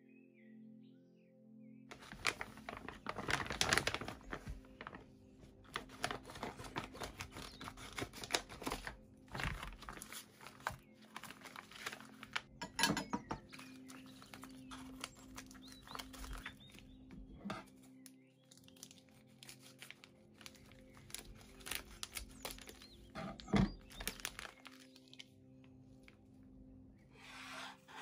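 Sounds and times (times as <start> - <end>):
plastic packaging crinkling: 1.9 - 12.7, 13.4 - 26.2.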